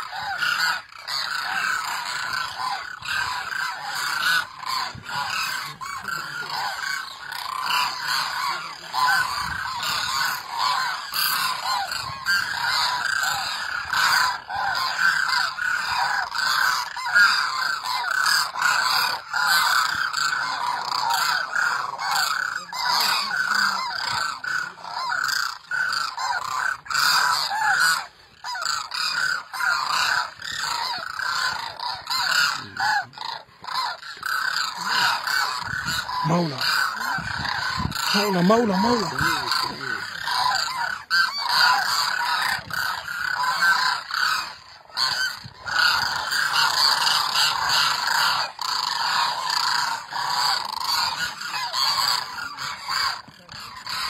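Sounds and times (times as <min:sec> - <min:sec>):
flock of cranes calling: 0:00.0 - 0:54.0.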